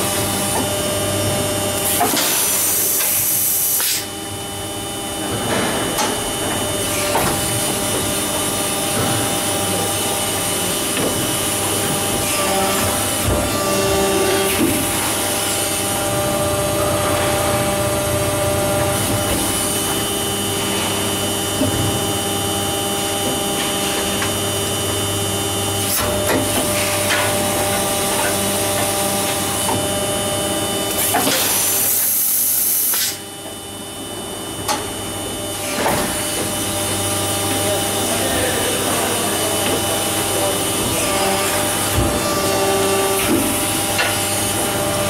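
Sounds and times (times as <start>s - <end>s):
injection moulding machine humming: 0.0s - 45.0s.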